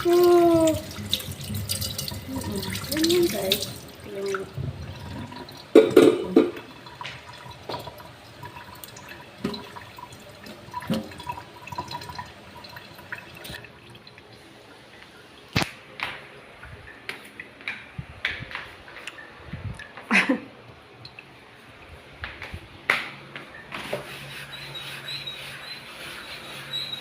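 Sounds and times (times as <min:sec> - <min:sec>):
water running and dripping: 0:00.0 - 0:22.5.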